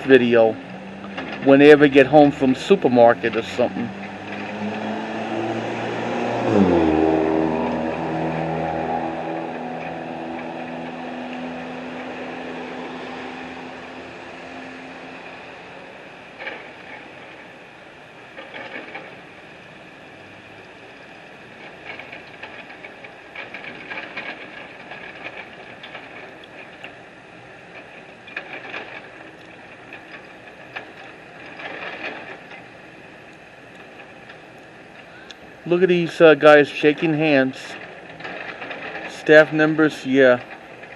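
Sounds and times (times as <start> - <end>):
short bursts of clattering: 0.0 - 40.9
street noise hiss: 0.0 - 40.9
vehicle engine: 0.0 - 40.9.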